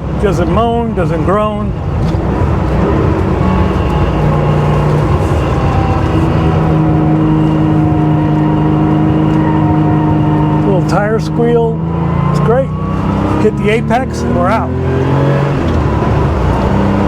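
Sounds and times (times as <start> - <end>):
car engine and exhaust: 0.0 - 17.0.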